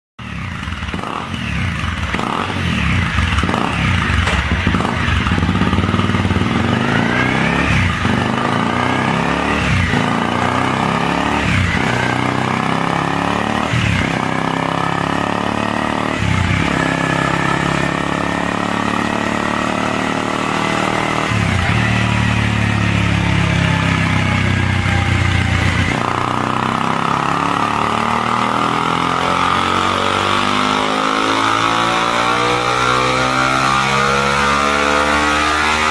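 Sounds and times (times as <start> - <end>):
motorcycle engine revving: 0.2 - 35.9.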